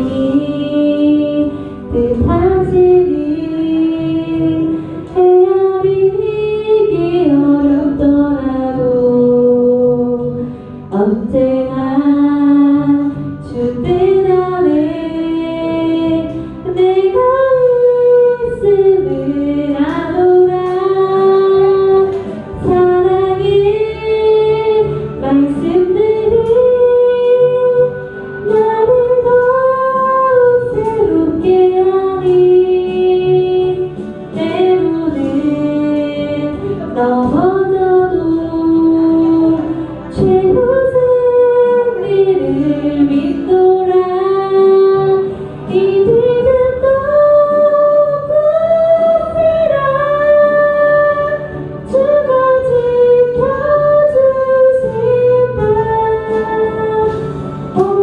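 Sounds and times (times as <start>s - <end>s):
instrumental accompaniment: 0.0s - 58.0s
woman singing gospel song: 0.0s - 58.0s.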